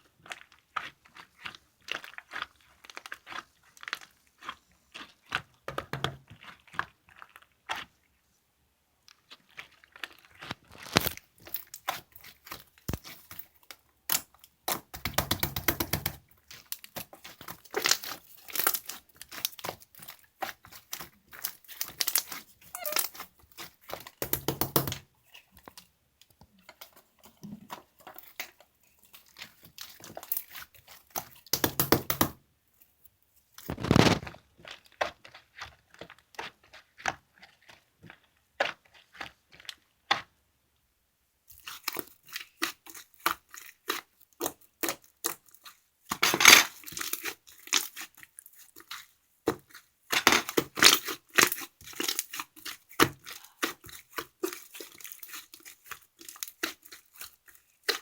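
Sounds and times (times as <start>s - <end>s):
slime with beads crackling: 0.0s - 8.2s, 9.1s - 40.3s, 41.5s - 58.0s.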